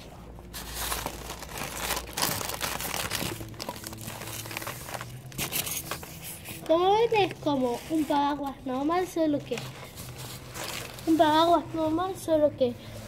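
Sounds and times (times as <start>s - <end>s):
plastic packaging crinkling: 0.5s - 11.7s.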